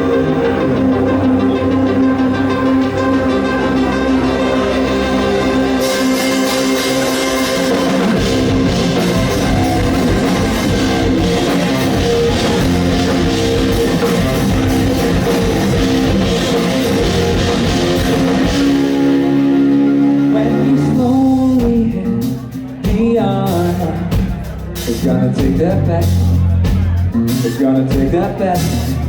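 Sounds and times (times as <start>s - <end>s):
drum kit: 0.0s - 29.0s
electric guitar: 0.0s - 29.0s.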